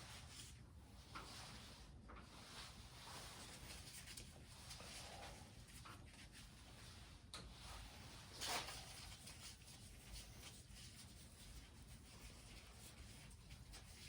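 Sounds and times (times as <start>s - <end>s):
faint rubbing and handling noises: 0.0s - 14.0s.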